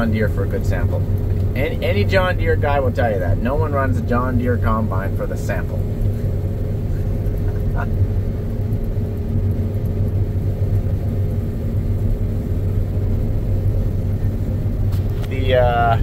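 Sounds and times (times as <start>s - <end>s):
combine harvester droning: 0.0s - 16.0s.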